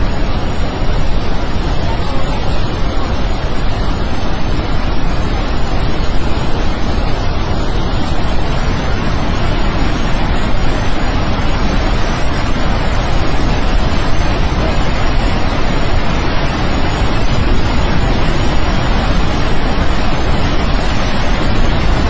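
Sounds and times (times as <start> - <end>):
floodwater roaring in river: 0.0 - 22.0.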